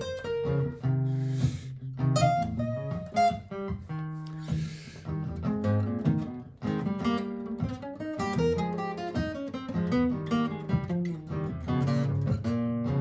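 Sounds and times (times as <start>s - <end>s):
acoustic guitar picked notes: 0.0s - 13.0s
looped guitar chords: 0.0s - 13.0s.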